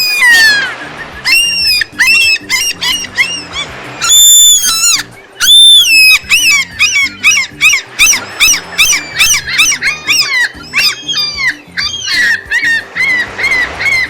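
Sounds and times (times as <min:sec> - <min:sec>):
gull long call: 0:00.0 - 0:14.0
low background music: 0:00.0 - 0:14.0.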